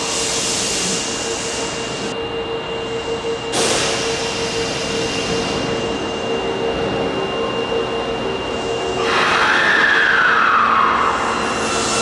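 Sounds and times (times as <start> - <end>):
high whine: 0.0 - 12.0
subway train rumble and hiss: 0.0 - 12.0.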